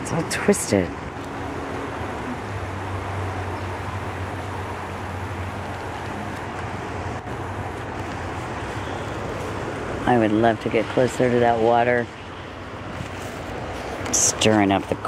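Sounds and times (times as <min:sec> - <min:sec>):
road traffic noise: 0:00.0 - 0:15.0
vehicle passing hum: 0:00.0 - 0:15.0.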